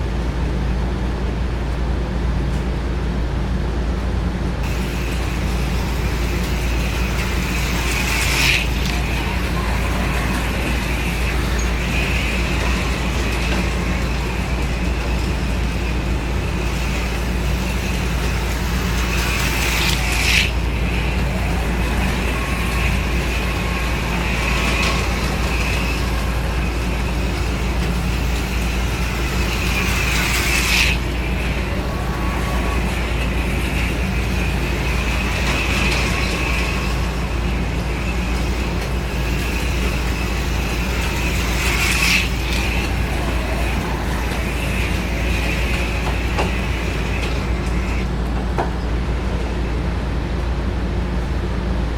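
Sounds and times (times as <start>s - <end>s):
low hum: 0.0s - 51.9s
electric motor whine: 4.6s - 49.0s.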